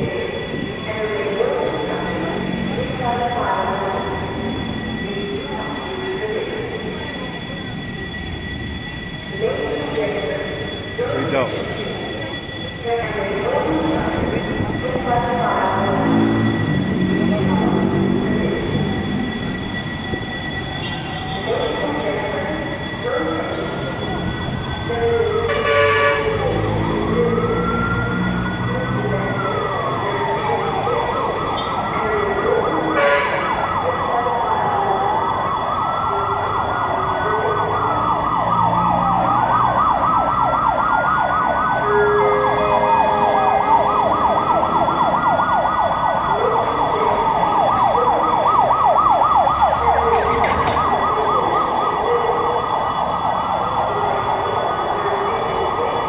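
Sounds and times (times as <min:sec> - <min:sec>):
fire truck siren: 0:00.0 - 0:56.0.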